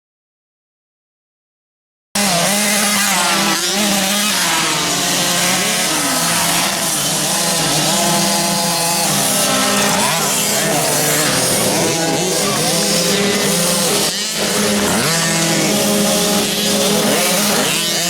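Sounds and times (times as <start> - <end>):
motocross motorcycle engines revving: 2.2 - 18.0.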